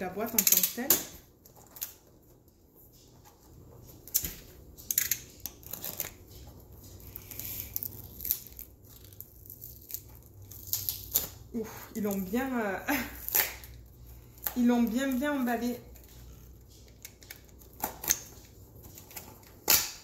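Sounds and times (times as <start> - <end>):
plastic wrap crinkling: 0.0 - 20.0.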